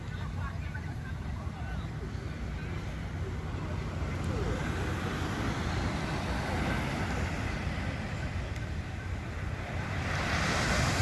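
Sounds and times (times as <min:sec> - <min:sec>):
sea surf washing: 0:00.0 - 0:11.0
wind rumbling on microphone: 0:00.0 - 0:11.0.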